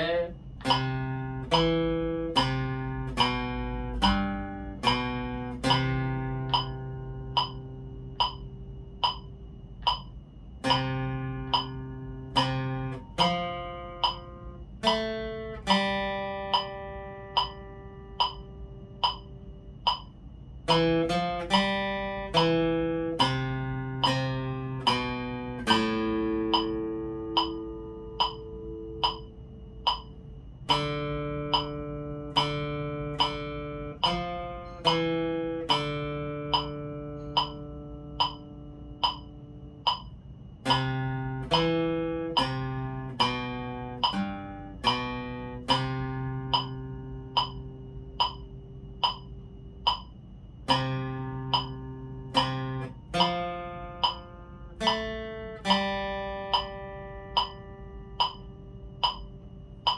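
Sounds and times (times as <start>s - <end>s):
acoustic guitar melody: 0.0s - 59.9s
metronome ticking: 0.0s - 59.9s.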